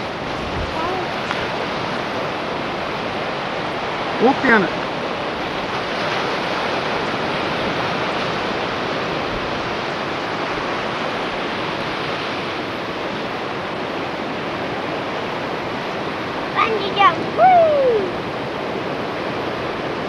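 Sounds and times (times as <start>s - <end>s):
ocean surf rushing: 0.0s - 20.0s.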